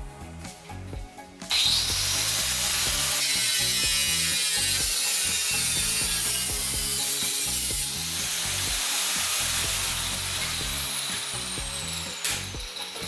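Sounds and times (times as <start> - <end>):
background music with bass line: 0.0 - 13.0
power tool cutting steel: 1.5 - 13.0.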